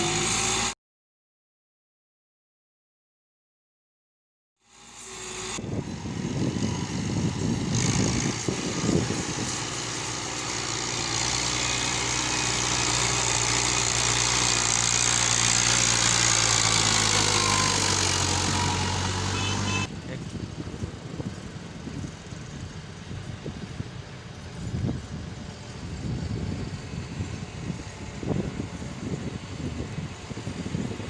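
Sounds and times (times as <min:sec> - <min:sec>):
tractor diesel engine running: 0:00.0 - 0:00.7, 0:04.7 - 0:31.0.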